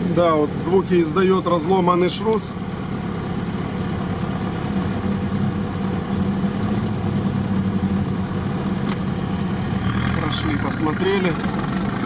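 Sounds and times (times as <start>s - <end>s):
vehicle engine running slowly: 0.0s - 12.0s.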